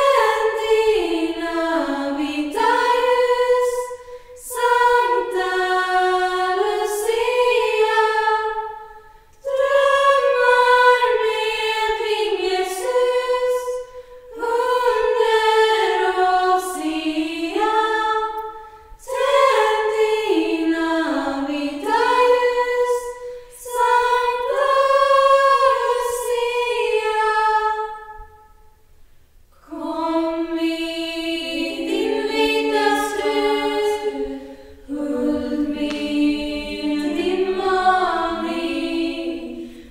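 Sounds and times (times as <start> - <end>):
girls' choir singing a cappella: 0.0 - 28.7, 29.6 - 39.9.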